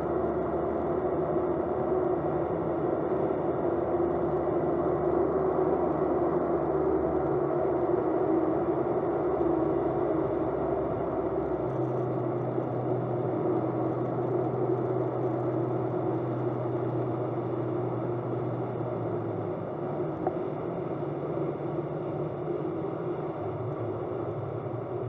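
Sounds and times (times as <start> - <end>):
light aircraft engine droning: 0.0 - 25.0
propeller and airflow noise: 0.0 - 25.0.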